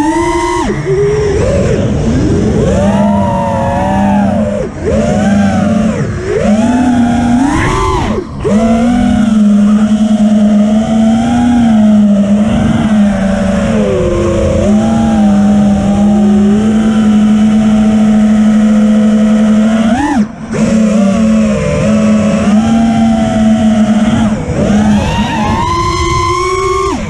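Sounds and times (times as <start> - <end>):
drone motors buzzing: 0.0 - 27.0.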